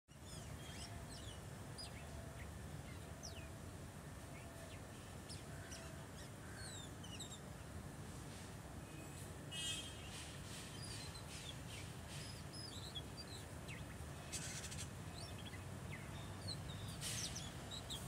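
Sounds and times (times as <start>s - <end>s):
birds chirping: 0.1s - 7.9s, 8.8s - 18.0s.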